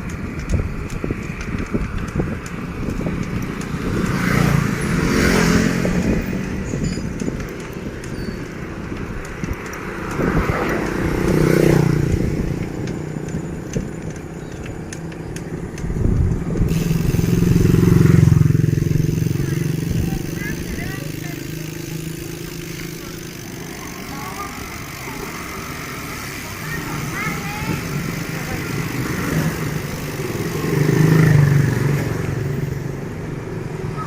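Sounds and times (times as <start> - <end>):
motorcycles passing: 0.0 - 34.0.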